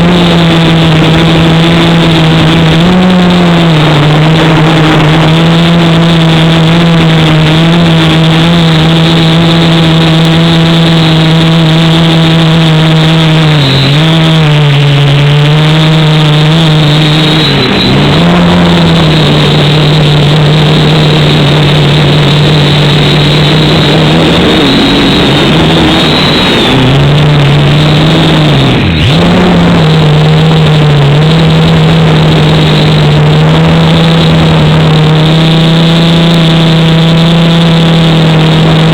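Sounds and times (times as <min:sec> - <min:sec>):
quadcopter motors whining: 0:00.0 - 0:38.9.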